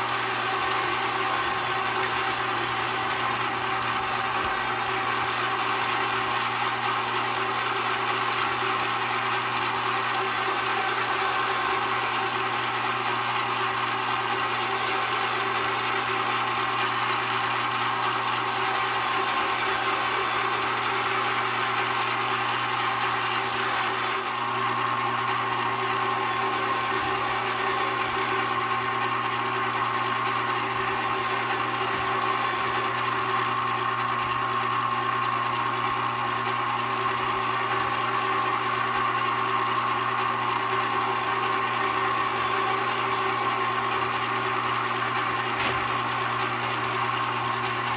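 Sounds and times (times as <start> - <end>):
electric meat grinder running: 0.0 - 47.9.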